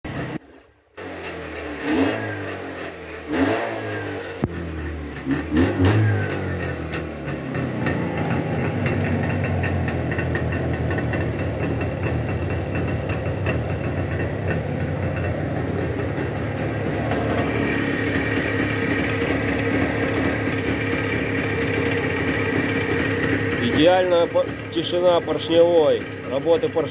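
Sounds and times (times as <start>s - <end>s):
motorcycle engine idling: 4.1s - 26.9s.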